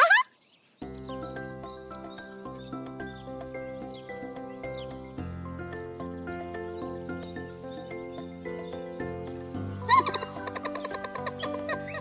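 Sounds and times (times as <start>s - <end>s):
playful cartoon music: 0.8s - 12.0s.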